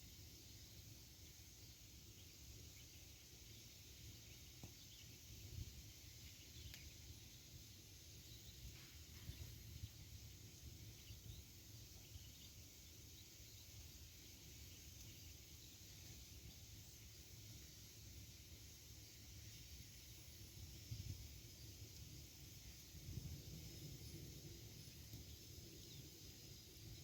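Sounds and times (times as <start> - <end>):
faint campfire crackling: 0.0 - 27.0.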